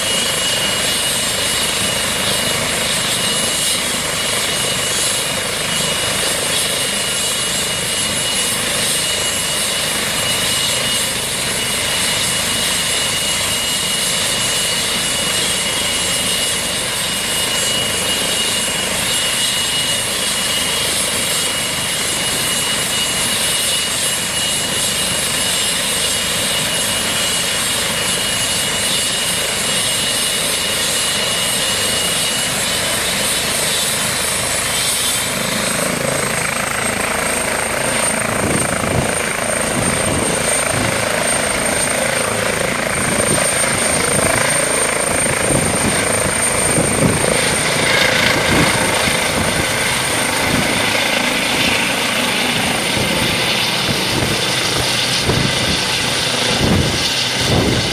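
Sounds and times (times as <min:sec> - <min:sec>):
constant high whine: 0:00.0 - 0:57.9
helicopter rotor and engine running: 0:00.0 - 0:57.9.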